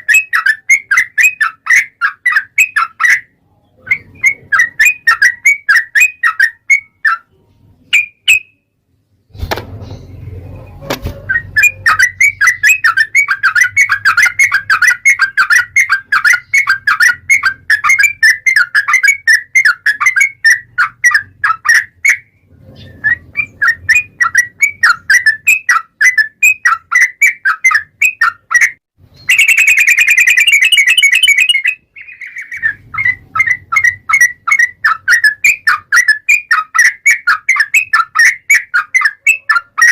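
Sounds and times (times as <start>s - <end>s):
bird chattering song: 0.0s - 8.6s, 9.8s - 39.9s.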